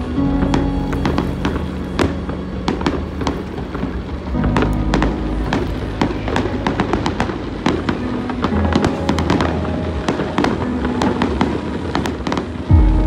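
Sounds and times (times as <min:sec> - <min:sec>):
fireworks crackling and popping: 0:00.0 - 0:13.0
music playing: 0:00.0 - 0:13.0.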